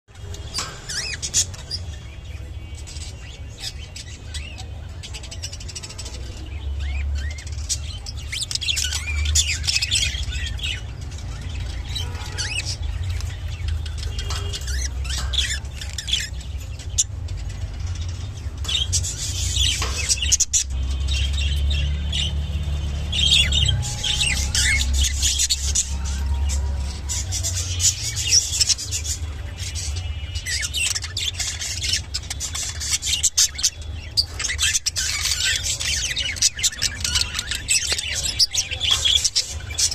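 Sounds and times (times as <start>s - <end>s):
budgerigars chirping and warbling: 0.1s - 39.9s.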